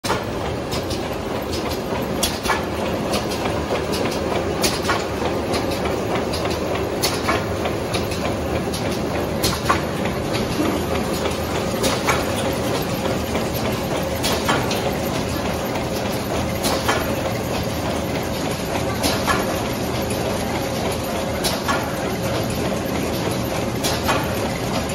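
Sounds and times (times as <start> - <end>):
packing machine clatter and whir: 0.0 - 24.9.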